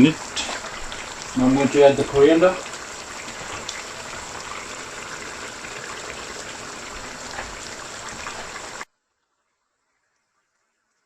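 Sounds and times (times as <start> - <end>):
curry boiling in a pot: 0.0 - 11.0.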